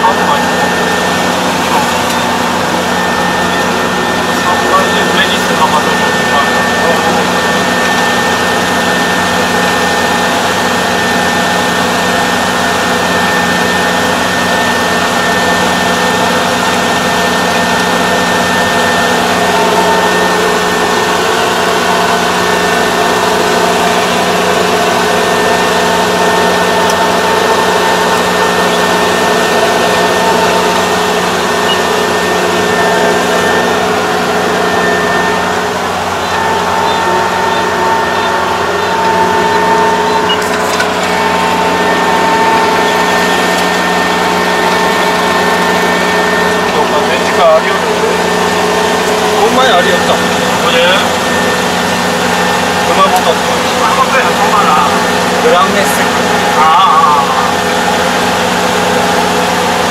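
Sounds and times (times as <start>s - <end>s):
combine harvester engine drone: 0.0s - 59.9s
steady high whine: 0.0s - 59.9s.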